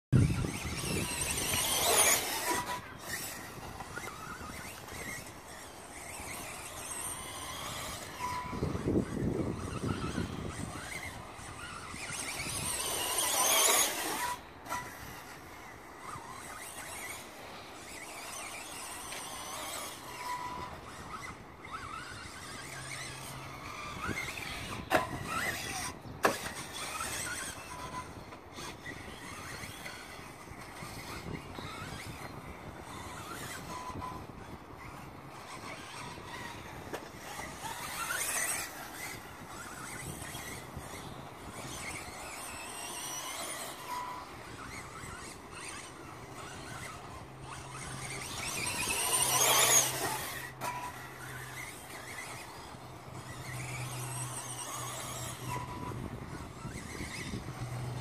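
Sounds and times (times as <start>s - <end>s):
electric rc car motor whining: 0.1s - 58.0s.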